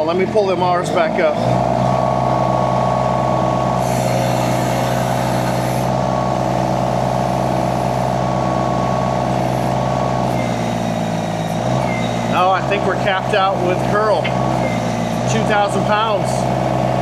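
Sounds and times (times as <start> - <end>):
skid steer engine at high revs: 0.8 - 17.0.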